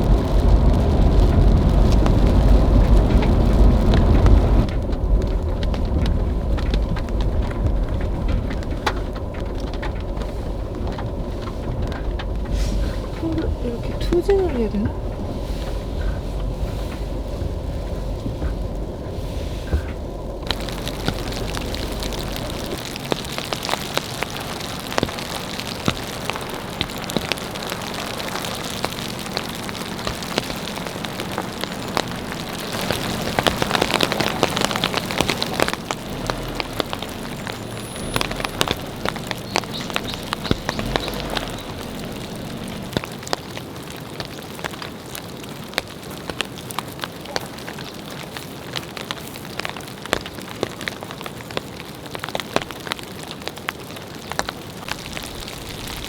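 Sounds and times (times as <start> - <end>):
raindrops ticking on surface: 0.0 - 56.0
steady rain: 0.0 - 56.0.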